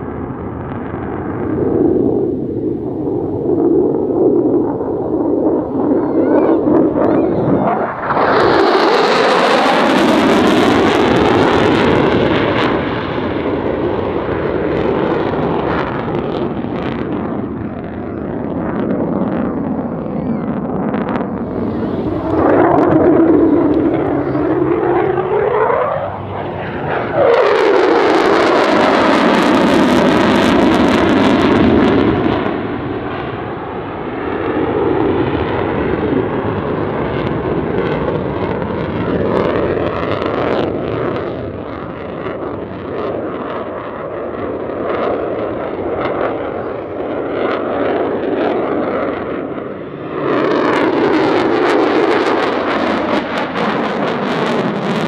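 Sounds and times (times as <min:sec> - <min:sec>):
jet engine roaring past: 0:00.0 - 0:55.0.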